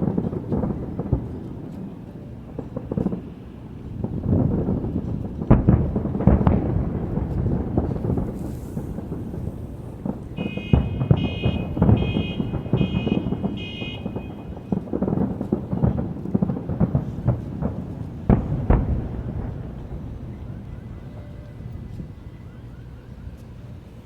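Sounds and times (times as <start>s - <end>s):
fireworks booming and cracking: 0.0s - 24.0s
sharp fireworks bangs: 0.0s - 24.0s.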